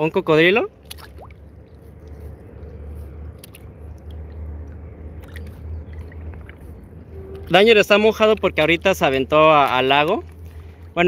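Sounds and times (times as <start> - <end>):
water lapping on kayak hull: 0.6 - 11.0
low rumble: 0.7 - 11.0.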